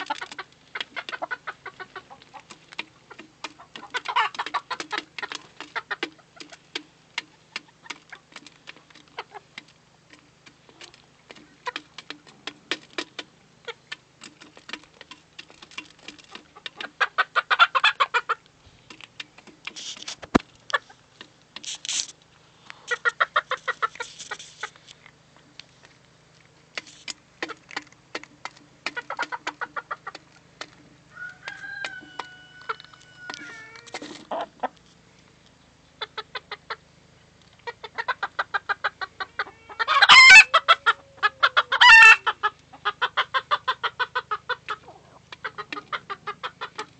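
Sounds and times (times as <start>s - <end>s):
chickens pecking taps: 0.0s - 36.8s, 37.4s - 46.9s
chickens clucking: 0.0s - 46.9s.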